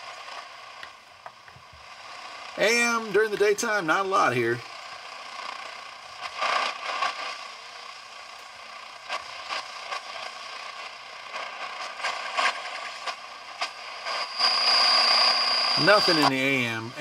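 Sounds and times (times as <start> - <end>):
radio crackles: 0.0 - 17.0
radio static hiss: 0.0 - 17.0.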